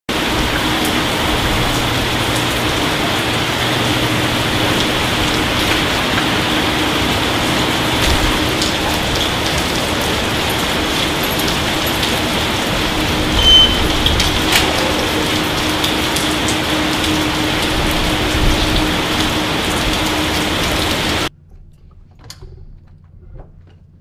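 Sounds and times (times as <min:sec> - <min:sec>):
rain on pavement: 0:00.1 - 0:21.3.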